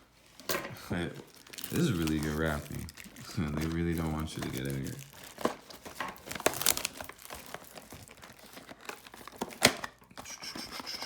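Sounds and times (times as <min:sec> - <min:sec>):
plastic wrapping crinkling and tearing: 0:00.3 - 0:10.6.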